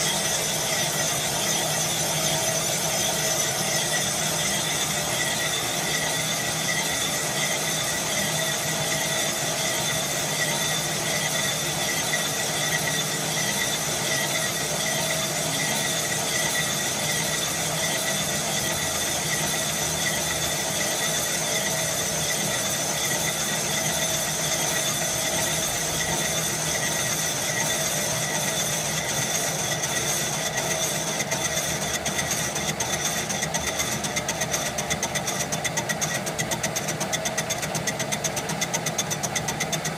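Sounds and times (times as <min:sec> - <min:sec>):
high squeal of cutting tool: 0:00.0 - 0:39.9
lathe running: 0:00.0 - 0:39.9.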